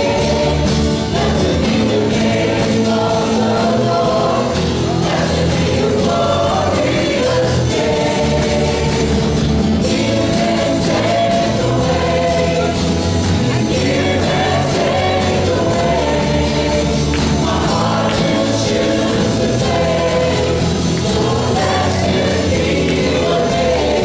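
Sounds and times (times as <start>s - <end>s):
bass: 0.0s - 24.0s
drums: 0.0s - 24.0s
voices singing together: 0.0s - 24.0s.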